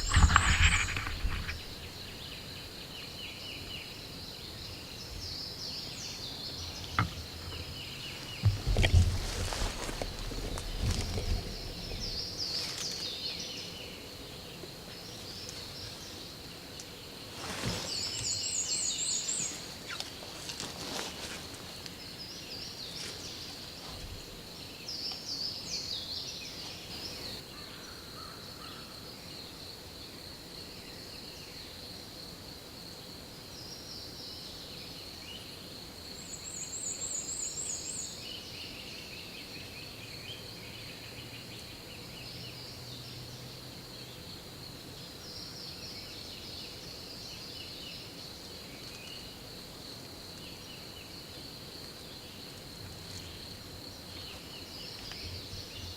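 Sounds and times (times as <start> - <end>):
songbirds singing: 0.0 - 20.5, 21.7 - 31.9, 33.0 - 55.9.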